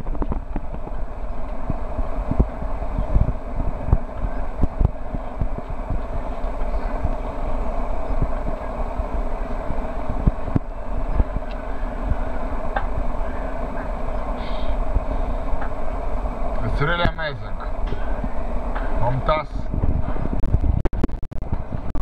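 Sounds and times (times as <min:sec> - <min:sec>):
rushing background noise: 0:00.0 - 0:22.0.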